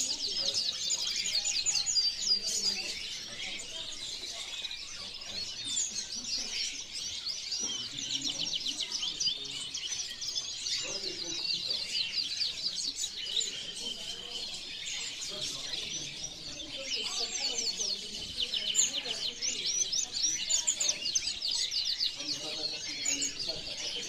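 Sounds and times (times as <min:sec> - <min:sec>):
canaries singing and chirping: 0:00.0 - 0:24.0.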